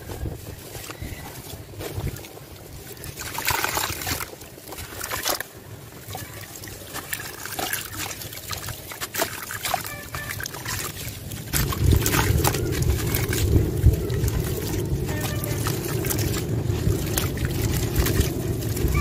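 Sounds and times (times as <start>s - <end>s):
water trickling: 0.0s - 19.0s
wet sand crunching and crumbling: 0.0s - 19.0s
crumbs splashing into water: 3.0s - 19.0s.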